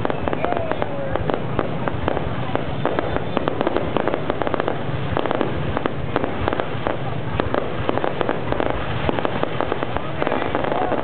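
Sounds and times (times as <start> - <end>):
fireworks bangs and crackles: 0.0 - 11.0
steady rumble: 0.0 - 11.0.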